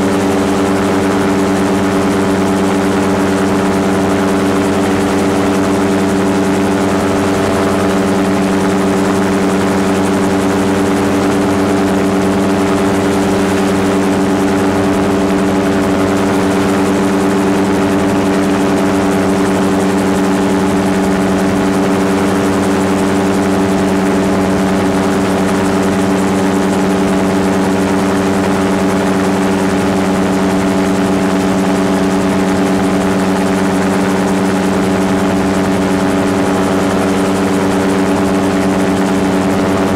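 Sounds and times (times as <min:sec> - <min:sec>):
gyrocopter engine droning: 0:00.0 - 0:39.9.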